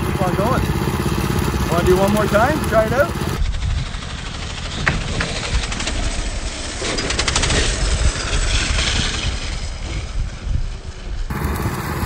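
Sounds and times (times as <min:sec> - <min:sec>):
rapid engine popping: 0:00.0 - 0:09.7
minibike engine running hard: 0:00.0 - 0:12.0.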